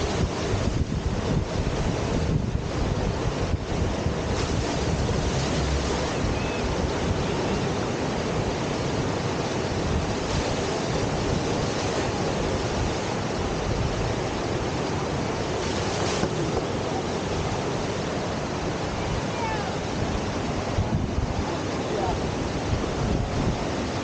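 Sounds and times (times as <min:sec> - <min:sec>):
whitewater rushing: 0:00.0 - 0:24.0
wind on microphone: 0:00.0 - 0:24.0.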